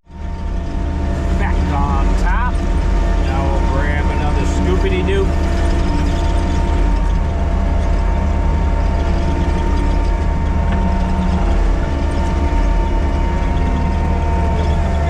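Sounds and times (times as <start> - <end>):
diesel engine rumbling with whine: 0.0 - 15.0.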